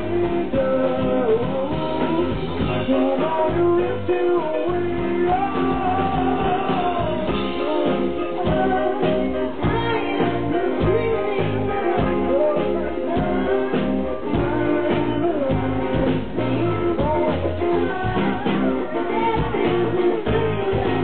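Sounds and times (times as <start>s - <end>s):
electric guitar: 0.0s - 21.0s
person singing: 0.0s - 21.0s
steady drum beat: 0.0s - 21.0s.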